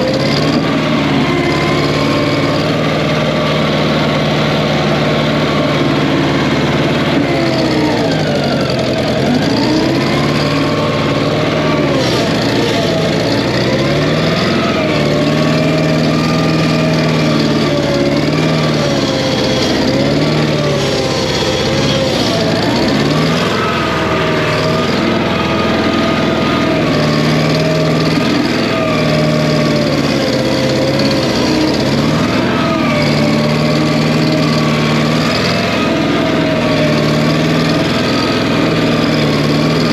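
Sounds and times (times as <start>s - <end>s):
engine running with a miss: 0.0s - 39.9s
hydraulic whine: 0.0s - 39.9s.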